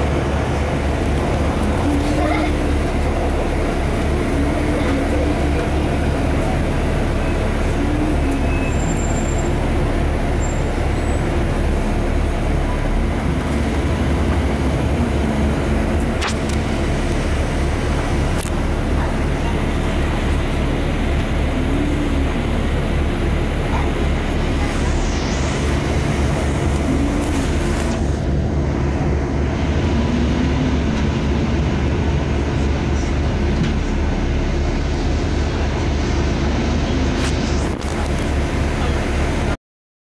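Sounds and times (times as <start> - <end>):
indistinct voices: 0.0 - 39.6
traffic rumble: 0.0 - 39.6.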